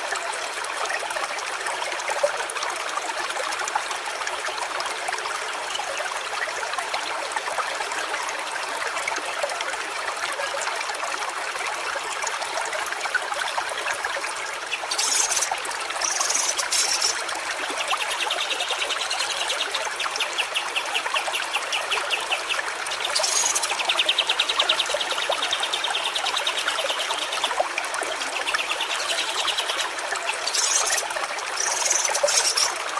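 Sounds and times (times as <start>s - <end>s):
stream water trickling: 0.0s - 32.9s.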